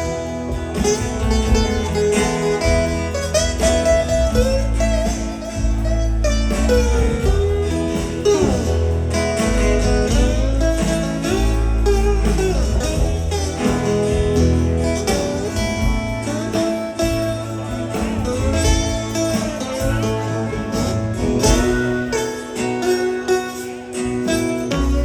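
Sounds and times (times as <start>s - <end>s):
rock band playing blues-rock: 0.0s - 25.0s.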